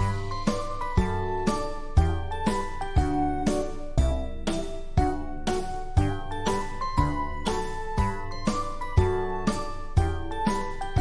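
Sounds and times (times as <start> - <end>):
light tinkling music: 0.0 - 11.0.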